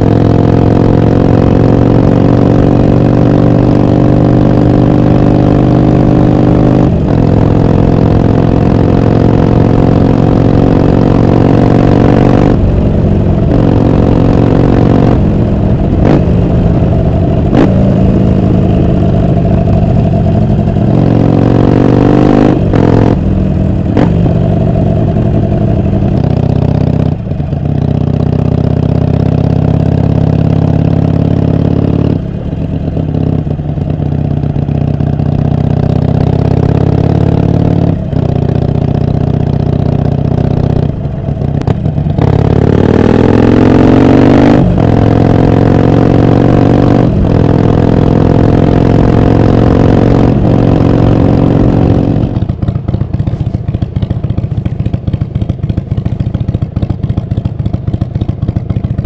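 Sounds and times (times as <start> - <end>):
motorcycle engine running loud: 0.0 - 59.0.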